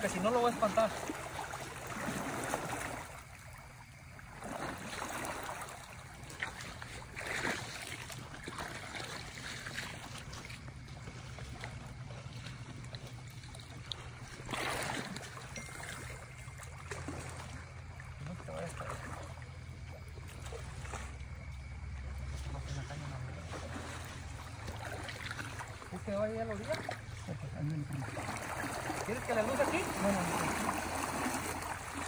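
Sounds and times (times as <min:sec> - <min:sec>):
river water rushing around legs: 0:00.0 - 0:32.0
water splashing: 0:00.0 - 0:32.0.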